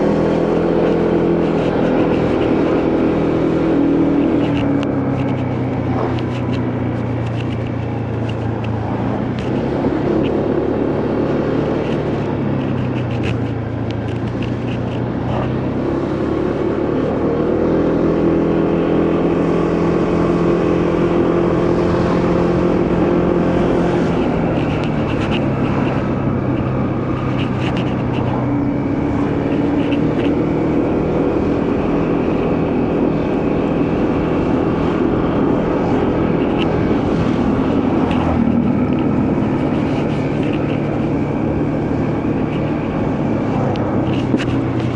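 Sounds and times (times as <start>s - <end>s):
motorcycle engine changing gears: 0.0s - 44.9s
wind and road noise: 0.0s - 44.9s.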